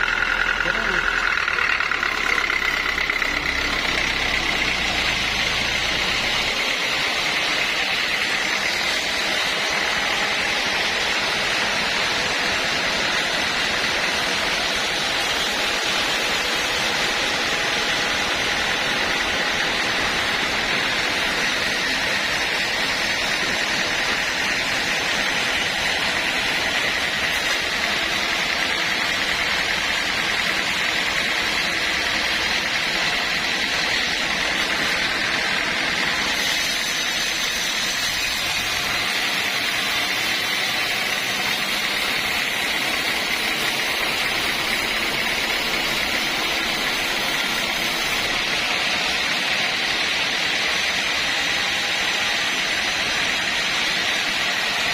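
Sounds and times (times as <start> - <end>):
high-pitched machine whine: 0.0 - 54.9
sawmill machine running: 0.0 - 54.9.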